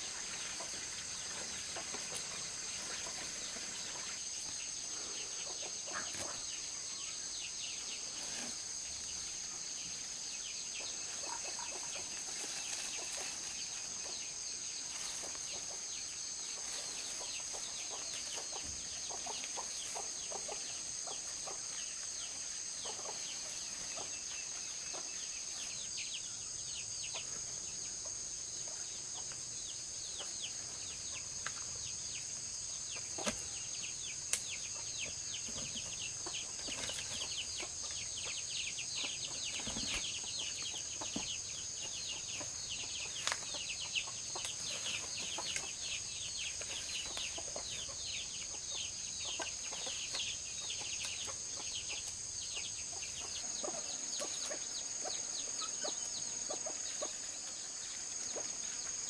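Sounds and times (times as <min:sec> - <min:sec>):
poultry peeping: 0:00.0 - 0:59.0.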